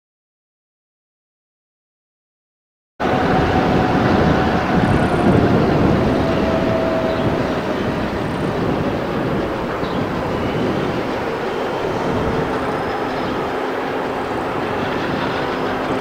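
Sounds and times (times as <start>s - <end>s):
diesel locomotive engine rumble: 3.0s - 16.0s
rolling-stock noise: 3.0s - 16.0s.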